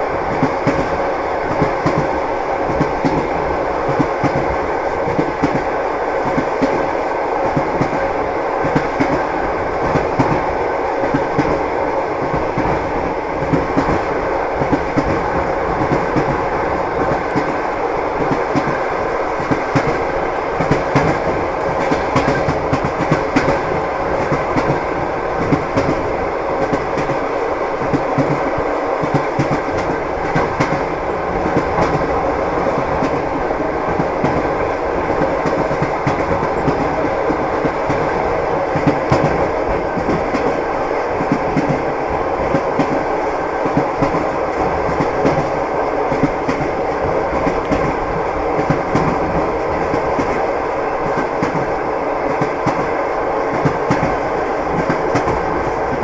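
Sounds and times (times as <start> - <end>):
train rumble: 0.0 - 56.0
train wheels clacking on rails: 0.0 - 56.0.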